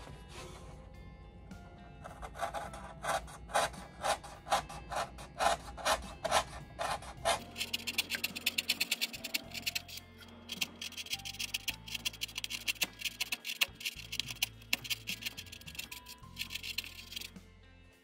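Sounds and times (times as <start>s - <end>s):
hand sanding wood: 2.2s - 17.3s.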